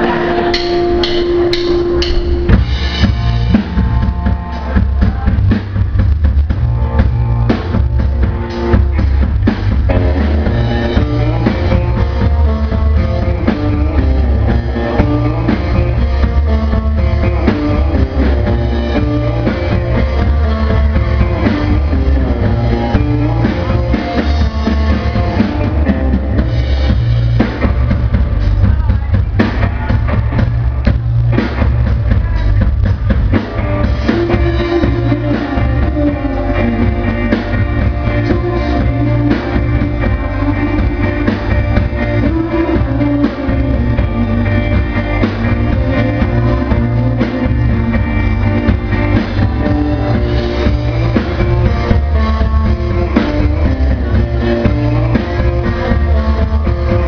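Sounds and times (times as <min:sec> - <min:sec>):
drum kit steady beat: 0:00.0 - 0:57.0
electric guitar: 0:00.0 - 0:57.0
heavy bass: 0:00.0 - 0:57.0.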